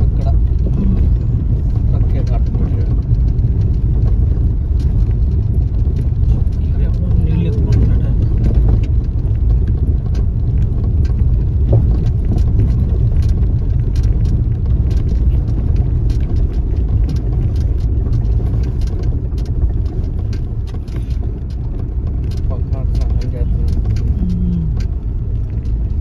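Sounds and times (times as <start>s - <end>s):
car rumbling over gravel: 0.0s - 26.0s
small clicks and knocks: 0.1s - 26.0s.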